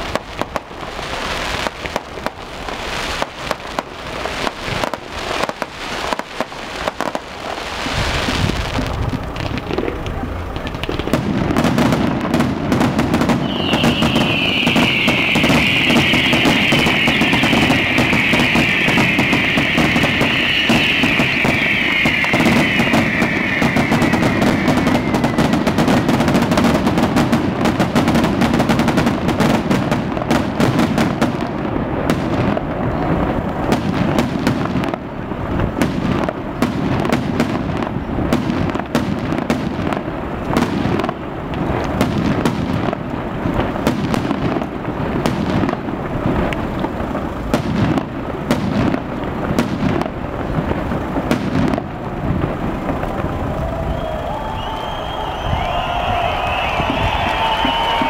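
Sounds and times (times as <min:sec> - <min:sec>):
fireworks bangs and crackles: 0:00.0 - 0:58.0
fireworks launching and hissing: 0:00.0 - 0:58.0.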